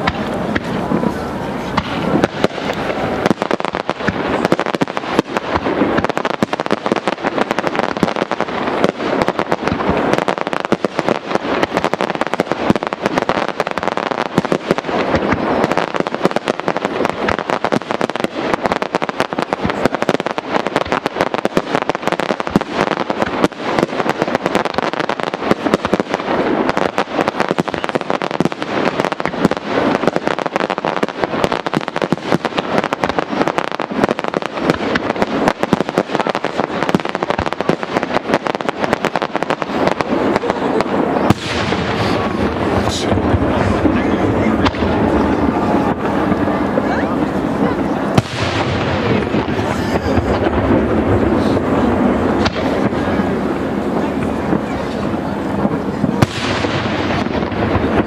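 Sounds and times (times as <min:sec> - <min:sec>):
fireworks bangs and crackle: 0:00.0 - 0:58.0.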